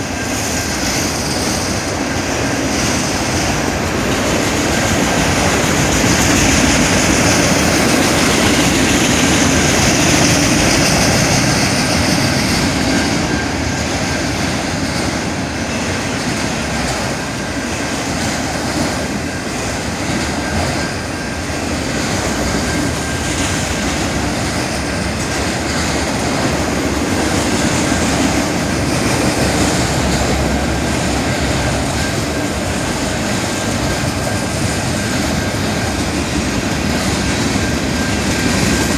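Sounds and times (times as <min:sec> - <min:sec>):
train cars rolling past: 0:00.0 - 0:38.9.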